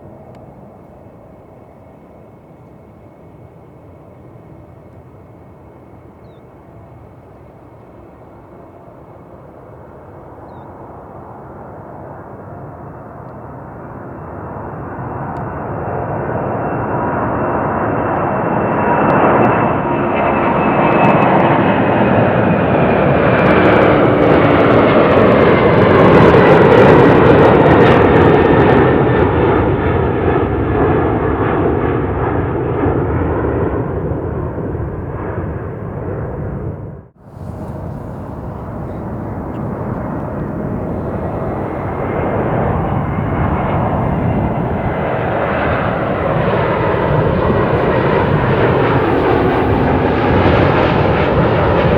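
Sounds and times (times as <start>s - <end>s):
jet engines at takeoff power: 0.0s - 51.9s.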